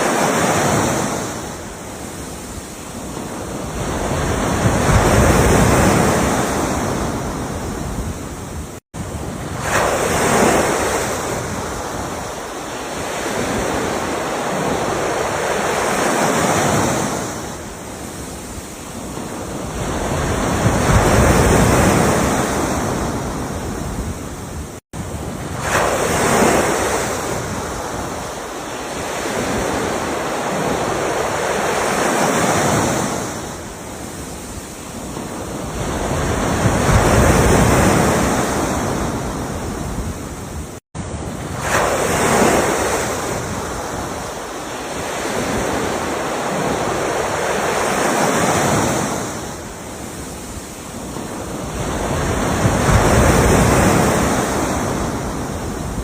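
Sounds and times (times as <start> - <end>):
ocean waves breaking ashore: 0.0 - 56.0.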